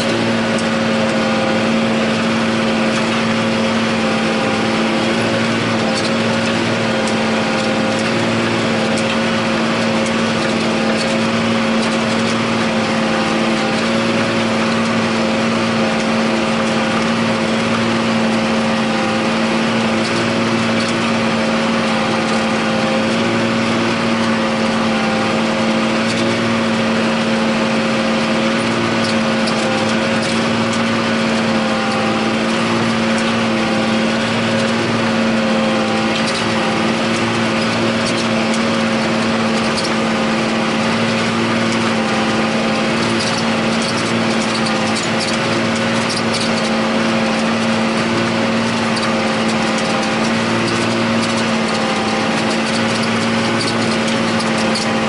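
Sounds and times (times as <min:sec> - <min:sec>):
tractor diesel engine drone: 0:00.0 - 0:55.0.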